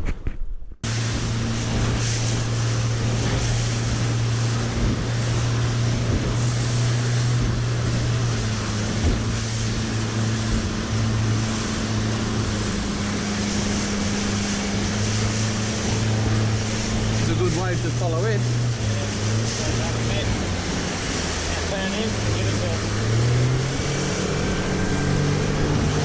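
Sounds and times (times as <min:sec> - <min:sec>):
wind: 0:00.0 - 0:26.0
outboard motor running: 0:00.8 - 0:26.0
water rushing against hull: 0:00.8 - 0:26.0.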